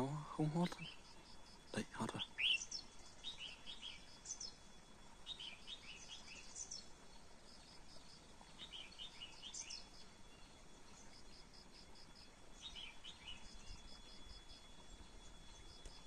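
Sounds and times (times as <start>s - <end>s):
bird singing warbled phrases: 0.0s - 16.0s
thin steady high tone: 0.0s - 16.0s.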